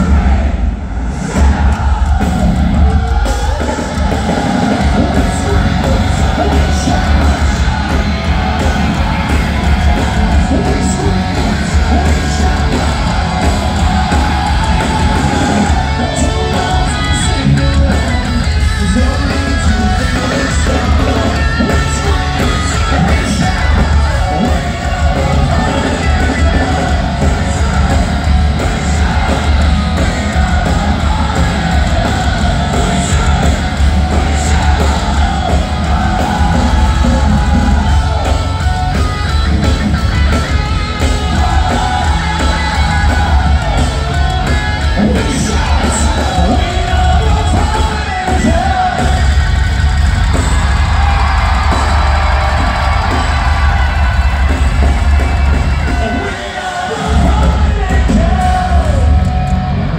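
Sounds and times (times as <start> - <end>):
live heavy metal band: 0.0 - 59.9
sung and shouted vocals: 0.0 - 59.9.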